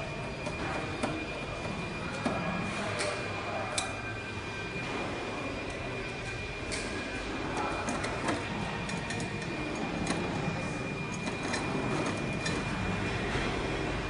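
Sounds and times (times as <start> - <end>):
machine noise with high whine: 0.0 - 14.0.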